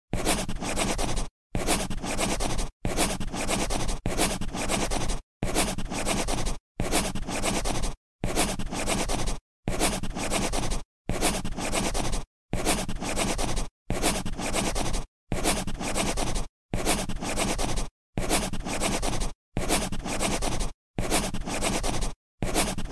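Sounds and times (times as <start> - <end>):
scratchy scribbling: 0.1 - 22.9.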